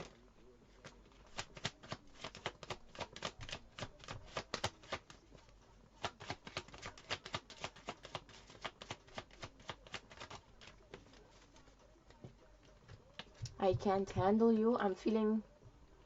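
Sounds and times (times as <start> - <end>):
cards being shuffled by hand: 0.0 - 13.6.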